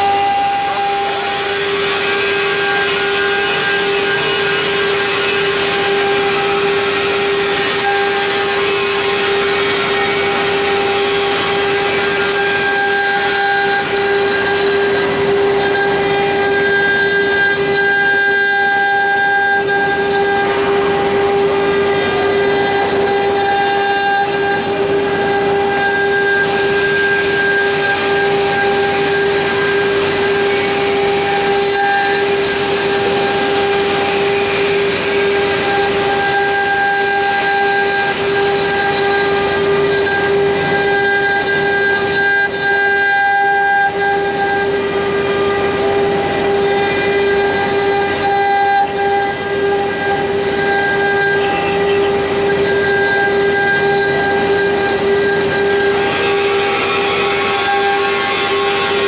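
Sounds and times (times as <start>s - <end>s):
spindle high-pitched whine: 0.0s - 59.0s.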